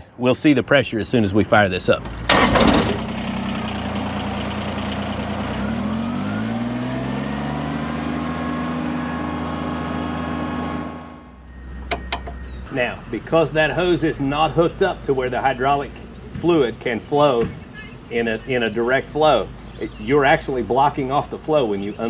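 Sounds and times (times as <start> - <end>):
tractor diesel engine running: 1.8 - 22.0.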